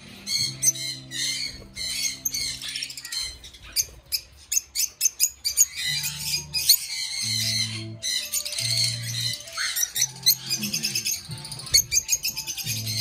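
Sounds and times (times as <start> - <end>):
background music low notes: 0.0 - 13.0
lovebirds chirping: 0.0 - 13.0.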